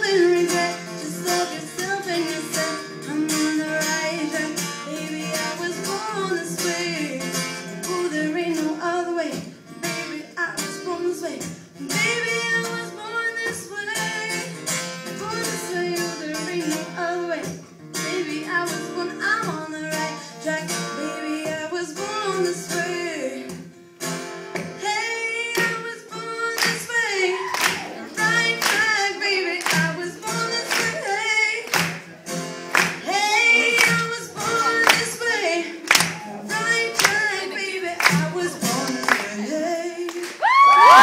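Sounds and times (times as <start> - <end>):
women singing: 0.0 - 14.5, 15.2 - 23.6, 24.8 - 31.7, 33.0 - 41.0
strummed acoustic guitar: 0.0 - 40.4.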